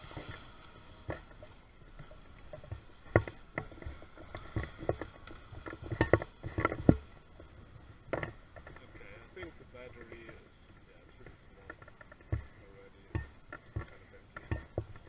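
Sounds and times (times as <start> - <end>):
small waves lapping against bank: 0.0 - 15.0.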